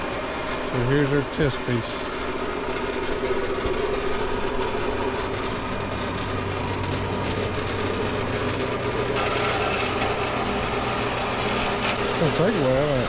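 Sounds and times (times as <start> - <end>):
bandsaw motor hum: 0.0 - 13.0.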